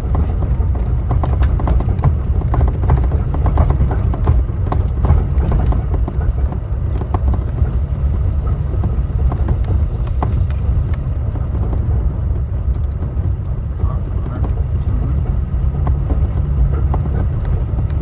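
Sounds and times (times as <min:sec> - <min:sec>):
low road and engine rumble: 0:00.0 - 0:18.0
clunks and knocks under steering wheel: 0:00.1 - 0:18.0.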